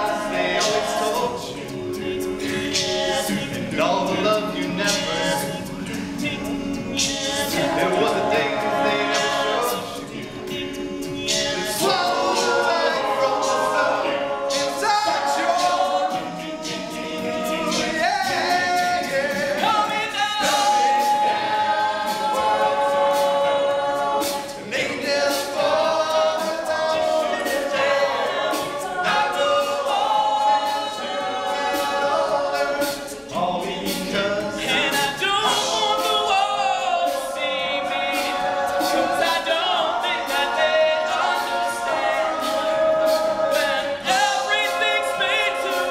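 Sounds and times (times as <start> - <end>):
male a cappella group singing: 0.0 - 45.9.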